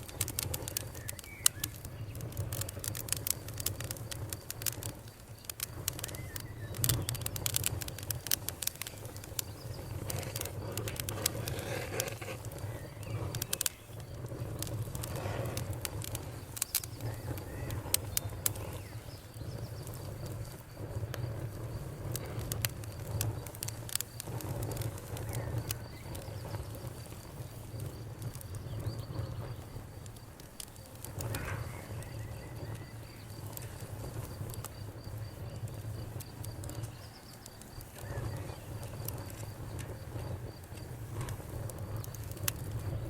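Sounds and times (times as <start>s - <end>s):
bonfire crackling: 0.0s - 43.0s
crickets chirping: 0.0s - 43.0s.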